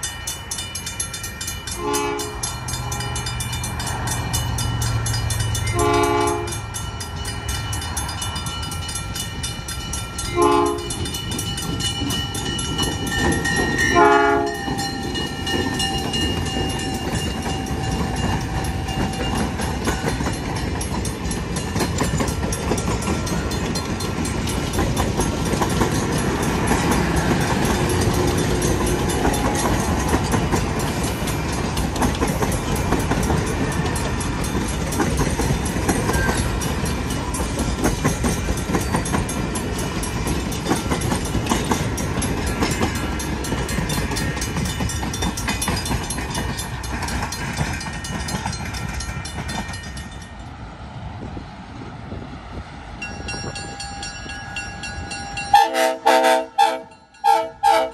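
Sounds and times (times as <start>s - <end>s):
wheels clicking over rail joints: 0.0s - 50.6s
train cars rumbling: 0.0s - 57.9s.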